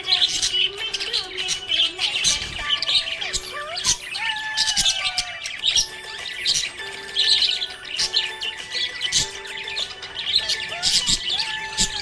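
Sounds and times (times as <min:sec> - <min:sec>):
budgerigar chirping: 0:00.0 - 0:12.0.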